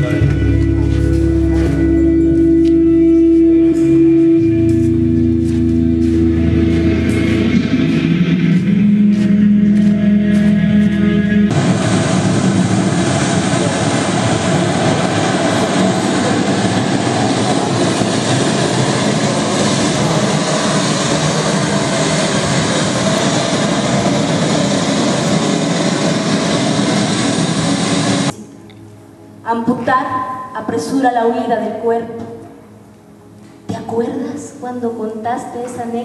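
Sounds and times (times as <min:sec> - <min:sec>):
loud steady rushing noise: 0:00.0 - 0:31.6.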